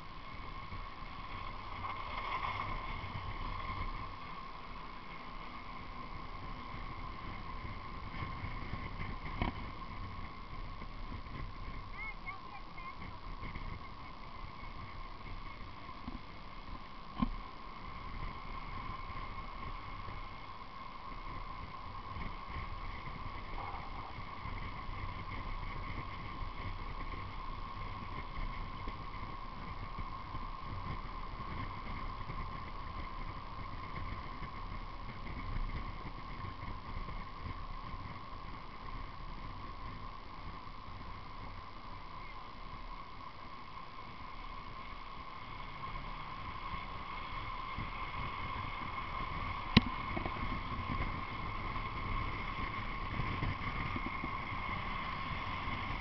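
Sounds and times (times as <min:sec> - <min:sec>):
wheels rumbling on asphalt: 0:00.0 - 0:56.0
wind noise: 0:00.0 - 0:56.0.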